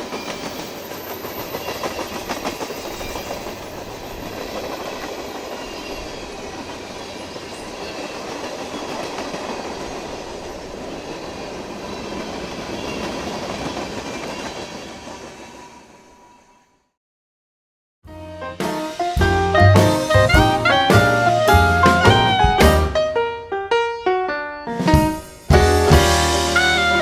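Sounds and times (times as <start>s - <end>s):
freight train wheels rumbling: 0.0s - 16.2s, 19.2s - 23.3s, 24.9s - 27.0s.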